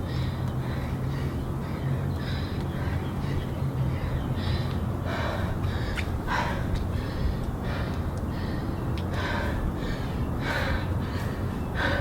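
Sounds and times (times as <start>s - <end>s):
steady low rumble: 0.0s - 12.0s
woman breathing hard: 0.0s - 12.0s.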